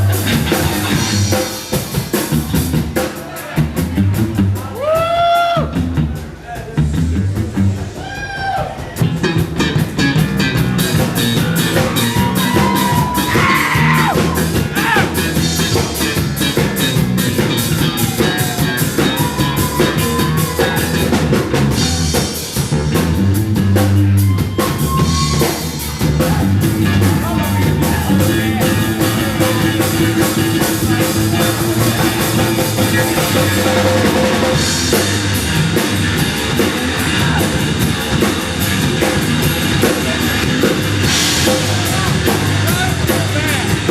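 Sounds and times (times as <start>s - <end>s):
busy drum kit beat: 0.0s - 43.9s
rock band playing live: 0.0s - 43.9s.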